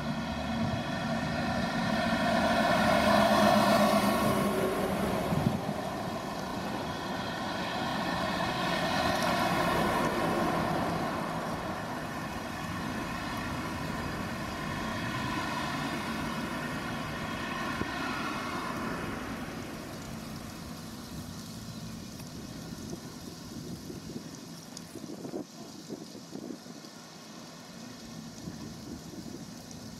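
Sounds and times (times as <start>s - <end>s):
excavator diesel engines droning: 0.0s - 24.9s.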